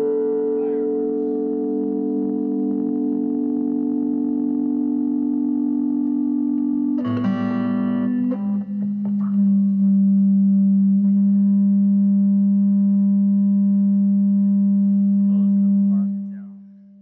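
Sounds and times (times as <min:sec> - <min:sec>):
electric guitar with effects: 0:00.0 - 0:17.0.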